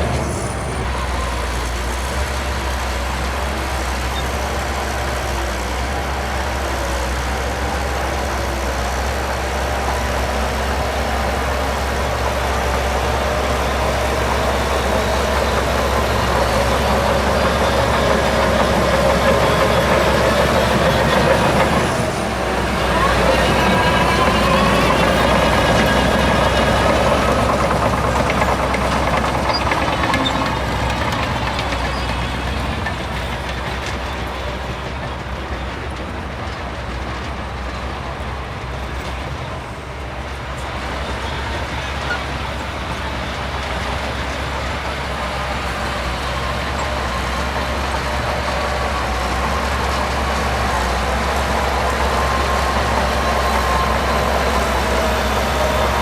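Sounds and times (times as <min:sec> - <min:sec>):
bulldozer diesel engine under load: 0:00.0 - 0:56.0
engine whine: 0:00.0 - 0:56.0.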